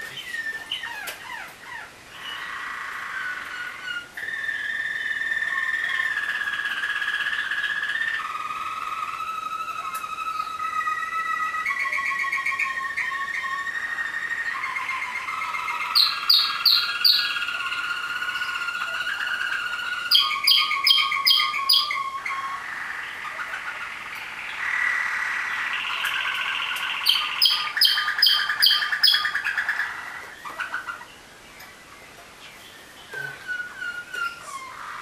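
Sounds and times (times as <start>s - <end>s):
canaries singing rolling trills: 0.0s - 35.0s.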